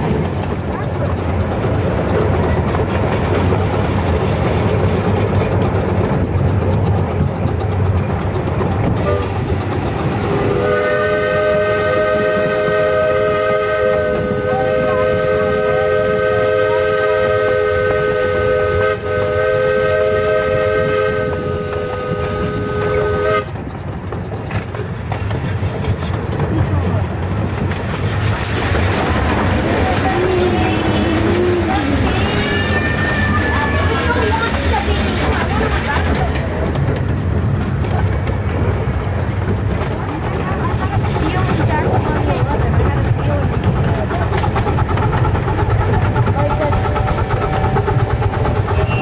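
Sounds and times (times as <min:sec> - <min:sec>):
miniature train rumbling: 0:00.0 - 0:49.0.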